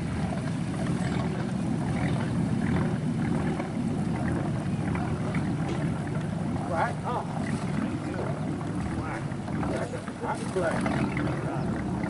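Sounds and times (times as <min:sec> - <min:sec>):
boat engine gurgling: 0:00.0 - 0:12.0.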